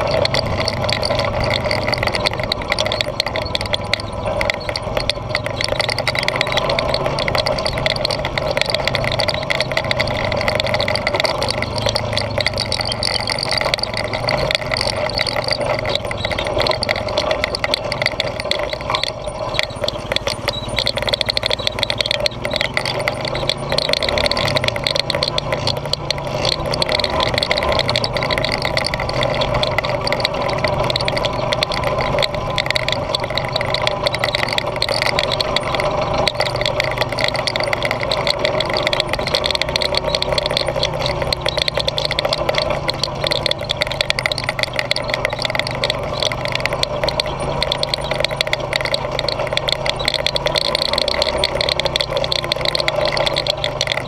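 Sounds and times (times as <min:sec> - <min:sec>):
atv engine running: 0:00.0 - 0:54.0
knocks and rattles from riding: 0:00.0 - 0:54.0.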